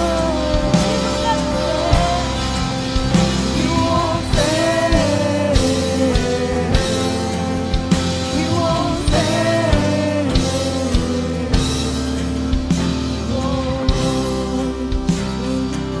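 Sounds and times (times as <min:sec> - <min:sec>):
drums keeping a beat: 0:00.0 - 0:16.0
worship band playing: 0:00.0 - 0:16.0.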